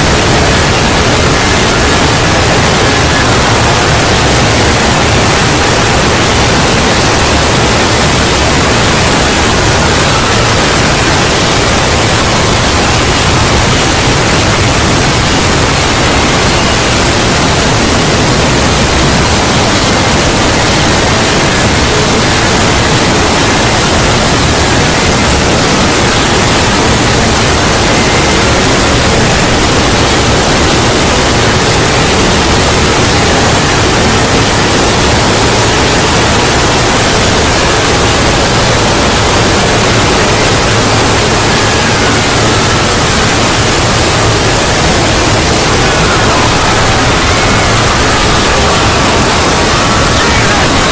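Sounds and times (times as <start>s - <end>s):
loud steady static hiss: 0.0s - 50.9s.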